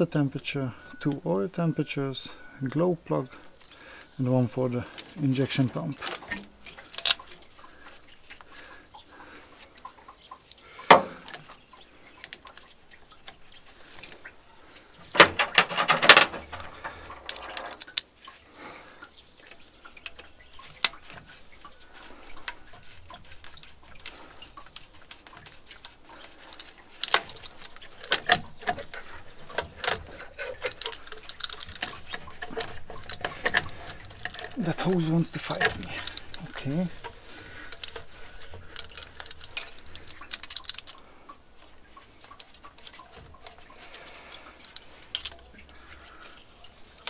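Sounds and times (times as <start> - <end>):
tools clicking and rattling on engine: 0.0 - 18.4, 19.0 - 47.0.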